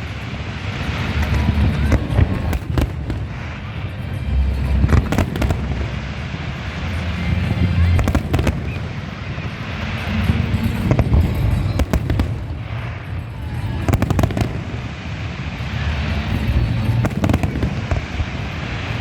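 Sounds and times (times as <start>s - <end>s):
background rumble: 0.0s - 19.0s
fireworks bangs and crackles: 0.0s - 19.0s.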